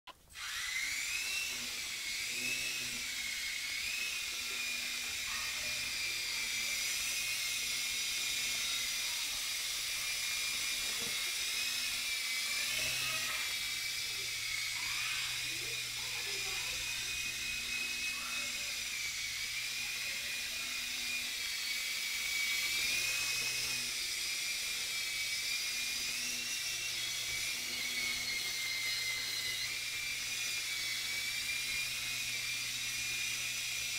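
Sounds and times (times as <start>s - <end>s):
rc helicopter motor whine: 0.1s - 33.9s.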